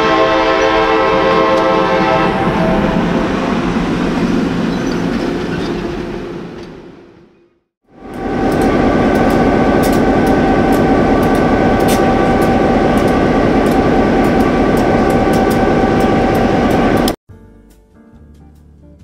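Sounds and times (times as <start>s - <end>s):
model train humming: 0.0s - 7.1s, 7.9s - 17.2s.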